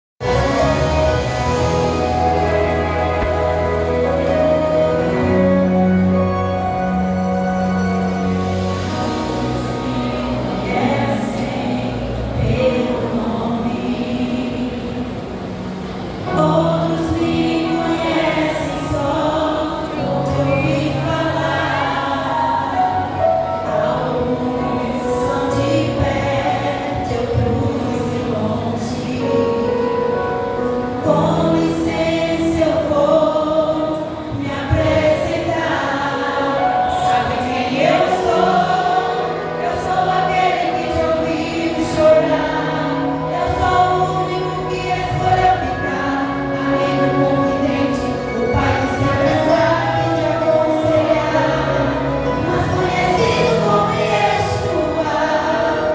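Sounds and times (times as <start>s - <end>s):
vocal group singing gospel: 0.2s - 55.9s.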